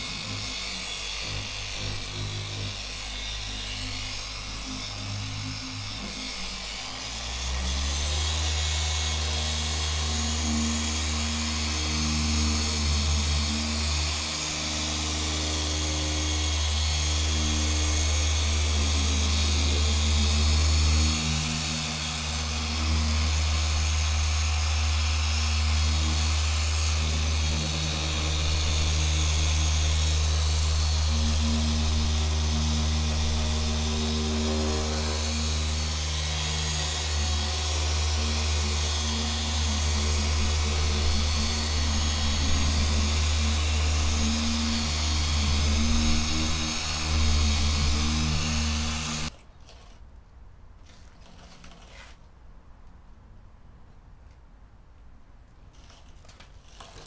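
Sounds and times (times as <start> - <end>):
electric power tool whining: 0.0 - 49.3.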